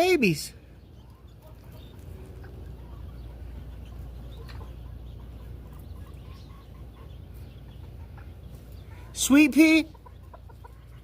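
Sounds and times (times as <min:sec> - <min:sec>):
chickens clucking softly: 0:00.6 - 0:11.0.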